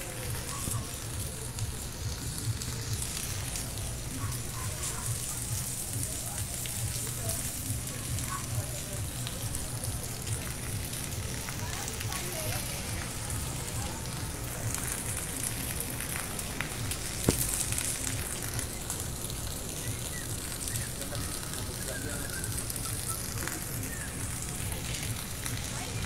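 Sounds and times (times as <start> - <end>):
steady rain on rooftops: 0.0 - 26.0.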